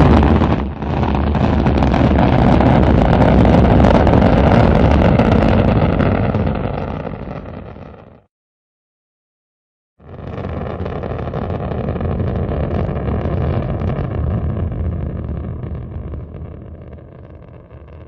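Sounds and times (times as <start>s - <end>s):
rocket engines roaring: 0.0s - 8.1s, 10.1s - 17.9s.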